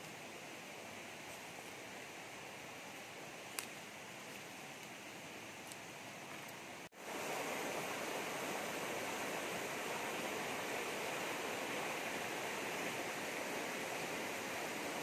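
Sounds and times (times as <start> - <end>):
stream rushing over rapids: 0.0 - 15.0.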